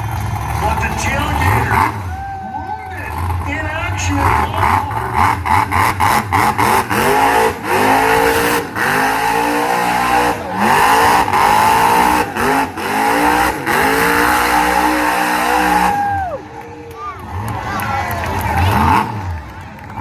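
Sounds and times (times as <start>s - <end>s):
truck engine revving hard: 0.0s - 2.2s, 3.0s - 16.4s, 17.1s - 20.0s.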